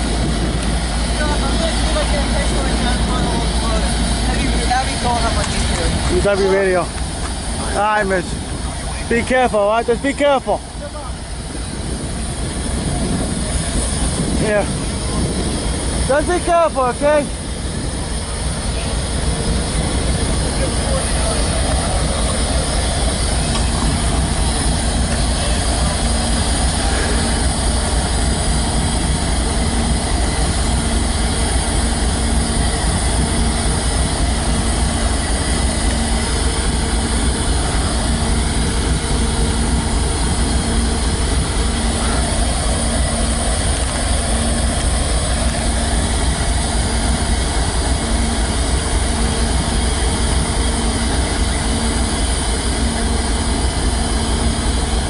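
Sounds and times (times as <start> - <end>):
freight train rumbling: 0.0 - 55.0.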